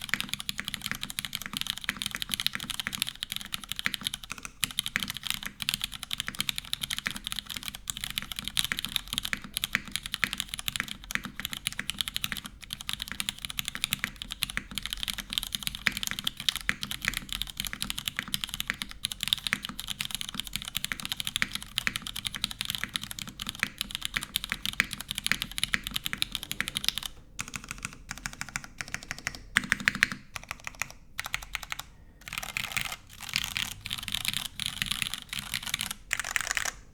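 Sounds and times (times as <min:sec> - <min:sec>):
mechanical keyboard typing: 0:00.0 - 0:36.9.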